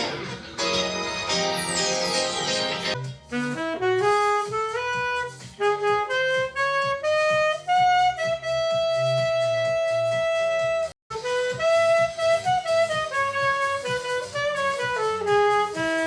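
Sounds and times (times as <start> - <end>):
alto saxophone melody: 0.0 - 16.0
low rhythmic accompaniment: 0.0 - 16.0.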